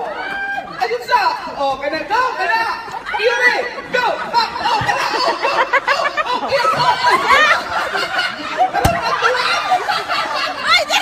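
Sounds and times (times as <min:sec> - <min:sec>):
excited chatter: 0:00.0 - 0:11.0
people laughing and squealing: 0:00.0 - 0:11.0.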